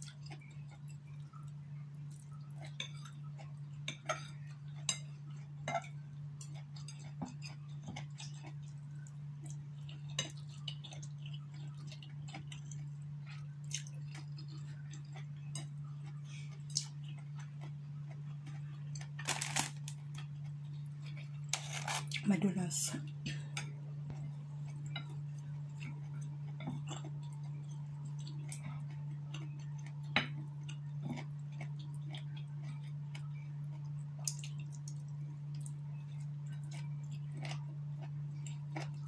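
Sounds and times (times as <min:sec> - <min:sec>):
chewing: 0:00.0 - 0:22.2, 0:23.4 - 0:39.0
low hum: 0:00.1 - 0:39.0.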